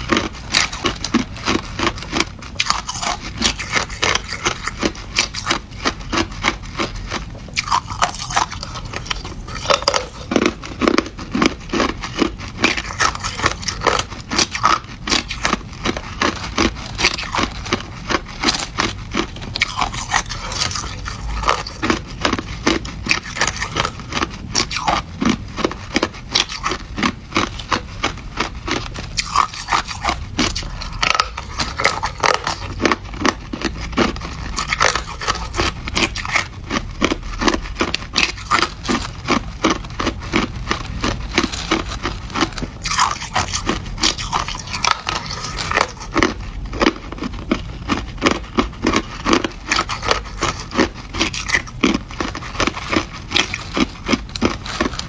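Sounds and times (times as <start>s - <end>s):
crushed ice being chewed: 0.0s - 55.0s.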